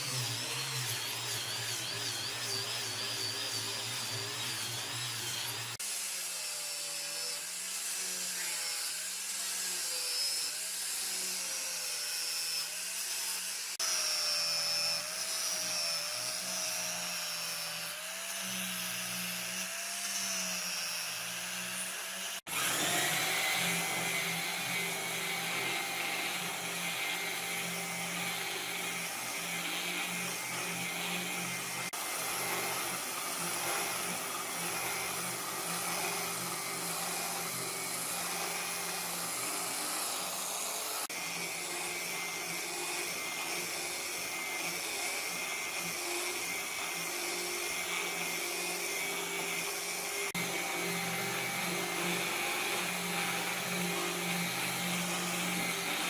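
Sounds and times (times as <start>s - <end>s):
power tool motor whirring: 0.0s - 56.0s.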